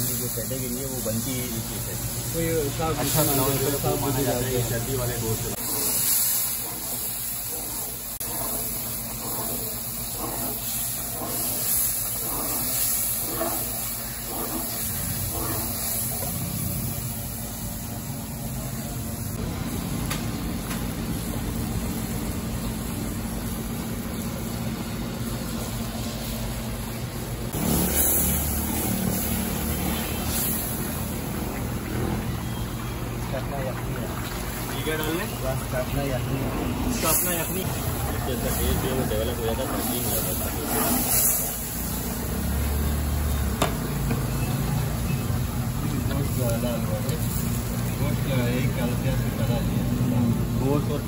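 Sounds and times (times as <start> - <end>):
meat and stock boiling in a pot: 0.0 - 51.0.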